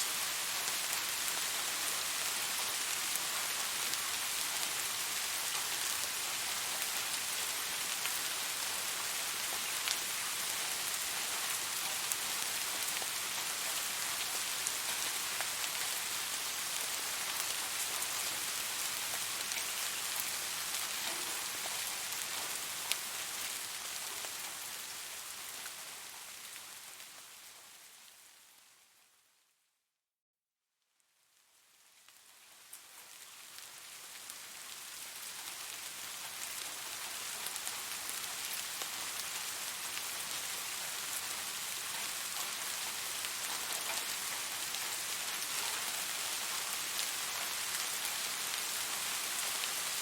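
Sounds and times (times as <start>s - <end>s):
steady rain falling: 0.0s - 29.5s, 31.1s - 50.0s.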